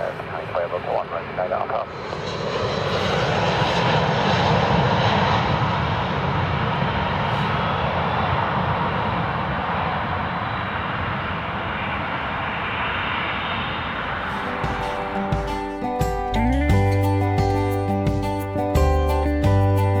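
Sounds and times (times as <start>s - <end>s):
jet engines rushing: 0.0s - 17.2s.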